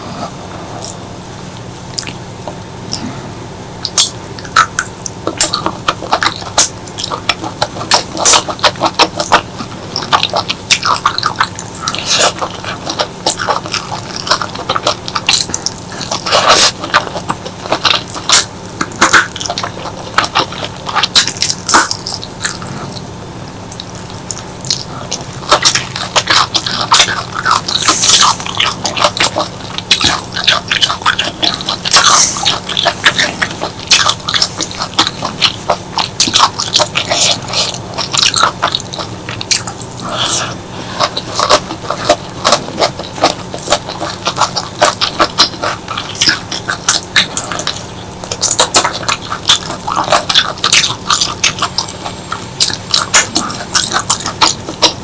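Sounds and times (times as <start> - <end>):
chewing and slurping: 0.0 - 55.0.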